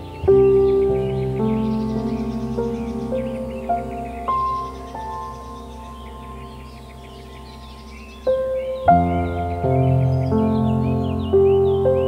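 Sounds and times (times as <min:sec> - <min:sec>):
ambient new-age chords: 0:00.0 - 0:12.0
faint high chirps: 0:00.0 - 0:12.0.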